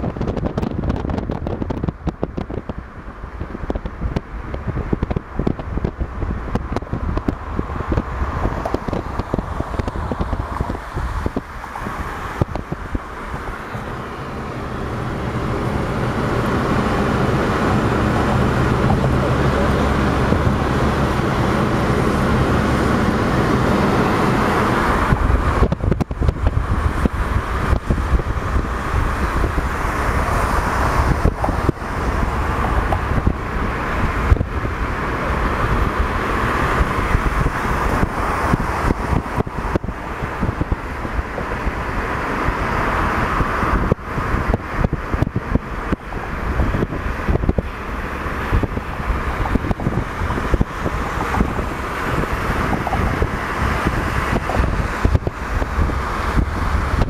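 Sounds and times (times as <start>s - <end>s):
car road and engine noise: 0.0s - 57.0s
wind buffeting microphone: 0.0s - 57.0s.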